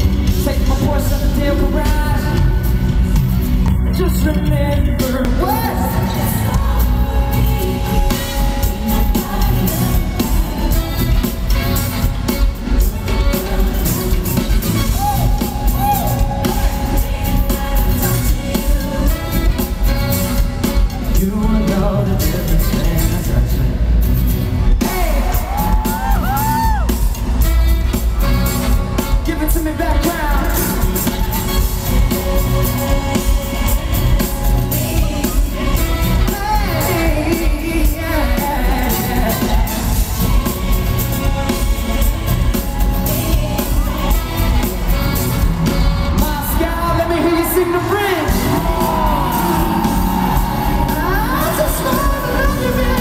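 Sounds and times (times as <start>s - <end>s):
man singing: 0.0s - 3.1s, 3.7s - 23.9s, 24.7s - 26.6s, 28.7s - 53.0s
pop funk band with brass: 0.0s - 53.0s.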